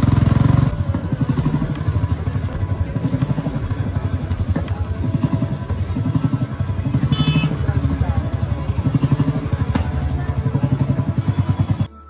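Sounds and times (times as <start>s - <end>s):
single-cylinder motorcycle engine: 0.0s - 11.9s.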